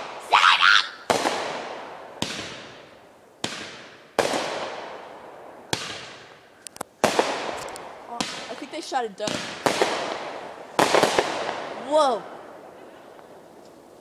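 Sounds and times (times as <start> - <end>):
fireworks exploding: 1.0 - 13.9.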